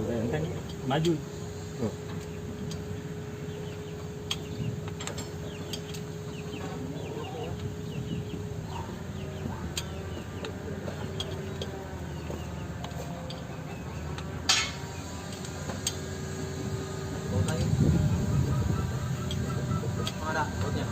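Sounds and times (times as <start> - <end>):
diesel engine idling: 0.0 - 20.9
chickens clucking: 3.4 - 20.9.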